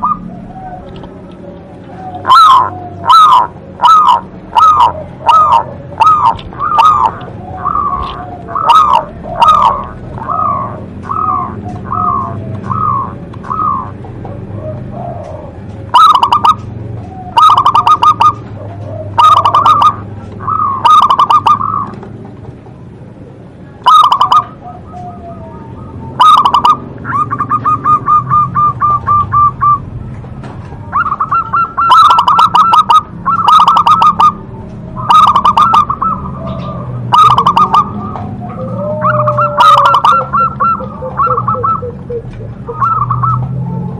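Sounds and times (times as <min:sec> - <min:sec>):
dove cooing: 0:00.0 - 0:22.3, 0:23.1 - 0:43.9
dove trill: 0:00.0 - 0:43.9.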